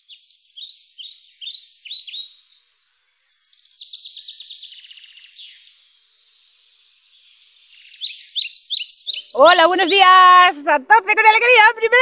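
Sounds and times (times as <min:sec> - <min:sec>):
songbird chirping and trilling: 0:00.0 - 0:12.0.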